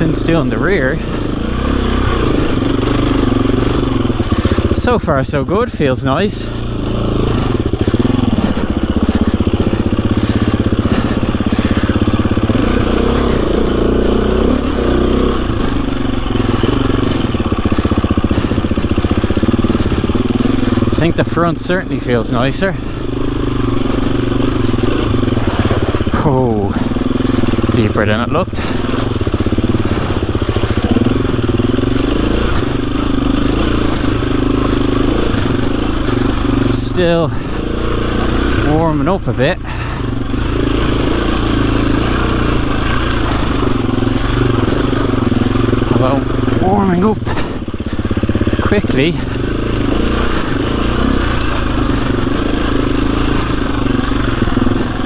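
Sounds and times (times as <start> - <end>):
motorcycle engine revving under load: 0.0 - 55.0.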